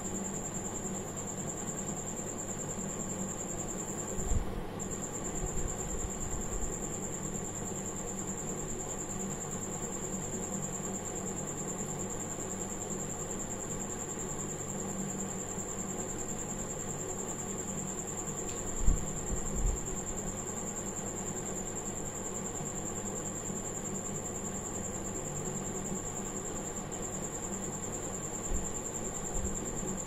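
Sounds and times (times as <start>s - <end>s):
background hum and hiss: 0.0s - 30.0s.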